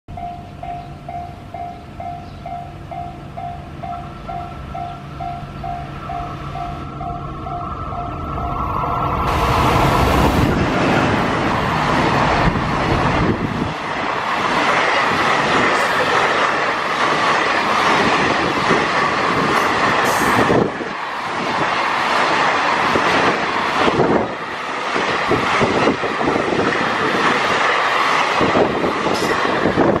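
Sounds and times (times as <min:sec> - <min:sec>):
freight train passing: 0:00.1 - 0:30.0
wheel-on-rail noise: 0:03.8 - 0:30.0.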